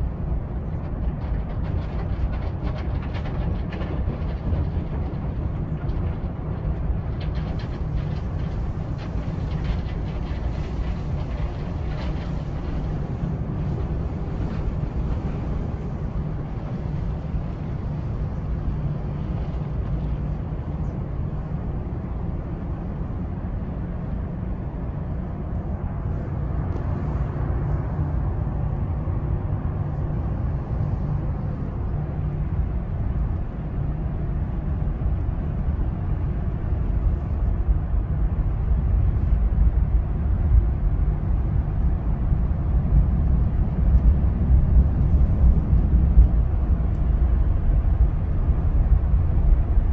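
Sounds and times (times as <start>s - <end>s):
muffled car wash rumble: 0.0s - 49.9s.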